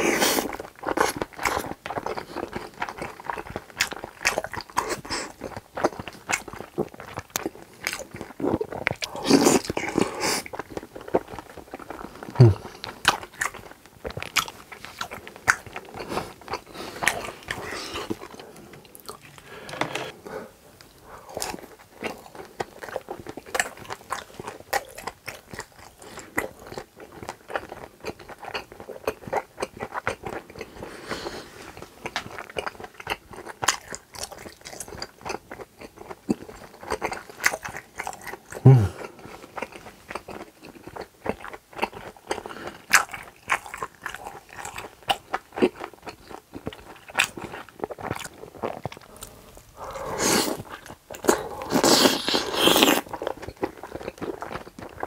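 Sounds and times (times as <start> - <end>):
wet chewing of food: 0.0 - 55.0.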